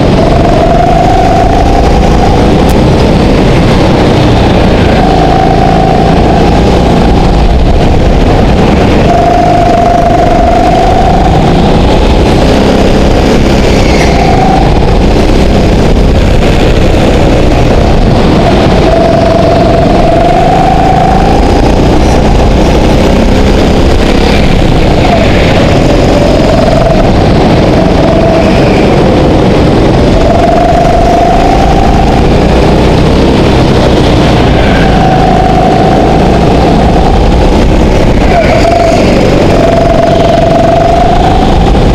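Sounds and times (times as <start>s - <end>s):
go-kart engine running hard: 0.0s - 41.9s
high whine: 0.0s - 41.9s.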